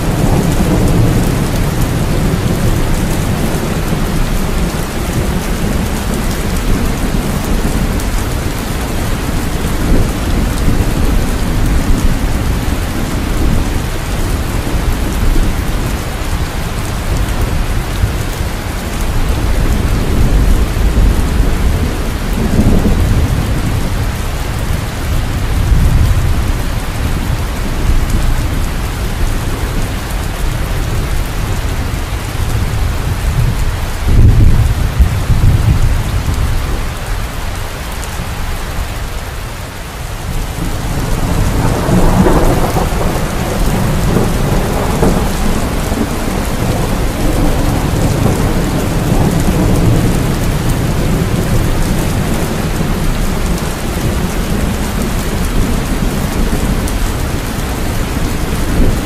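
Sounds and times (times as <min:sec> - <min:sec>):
low rolling thunder: 0:00.0 - 0:39.1, 0:40.1 - 0:59.0
heavy rain falling: 0:00.0 - 0:59.0.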